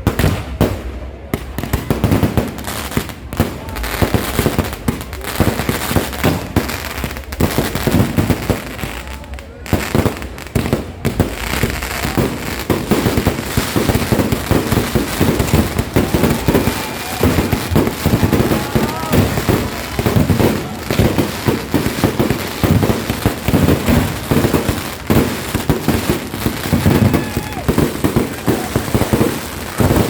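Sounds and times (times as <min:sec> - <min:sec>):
fireworks cracking and popping: 0:00.0 - 0:30.0.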